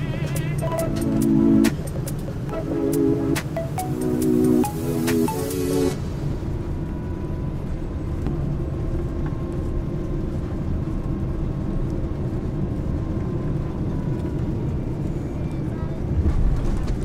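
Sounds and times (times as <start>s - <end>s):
airliner engine and air noise: 0.0s - 17.0s.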